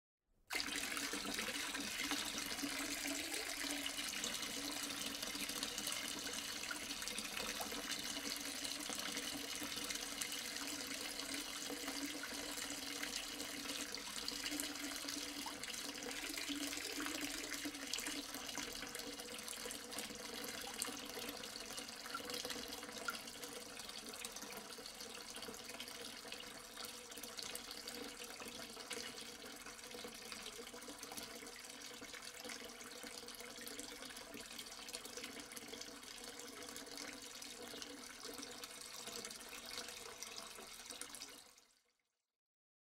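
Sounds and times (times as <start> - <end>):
water pouring into a sink: 0.5 - 41.8.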